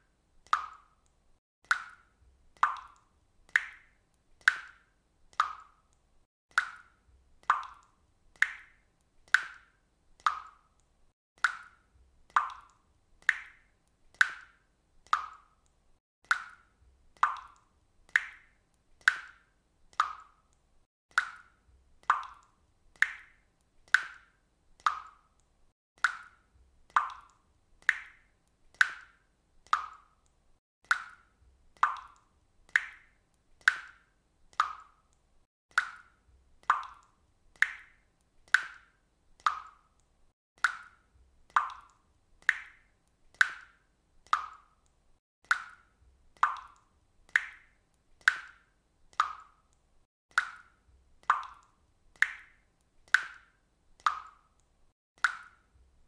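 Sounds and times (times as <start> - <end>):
water dripping from faucet: 0.0 - 56.0.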